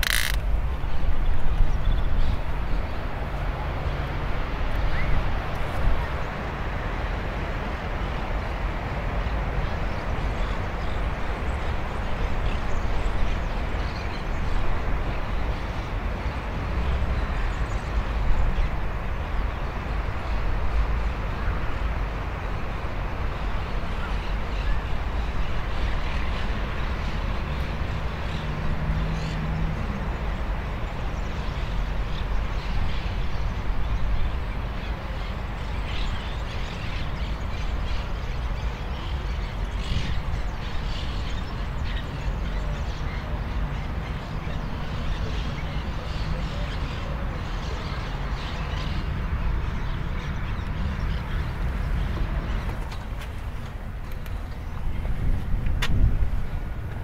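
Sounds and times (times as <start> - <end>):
distant town traffic hum: 0.0 - 57.0
wind rumbling on microphone: 0.0 - 57.0.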